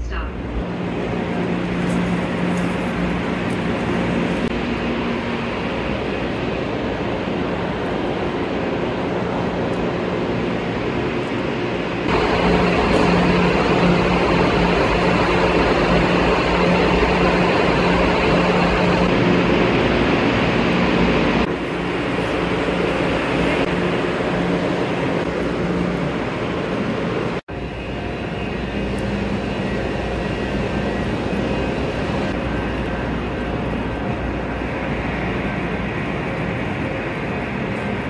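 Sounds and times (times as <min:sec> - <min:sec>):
low drone: 0:00.0 - 0:38.0
train hum and rushing: 0:00.0 - 0:38.0.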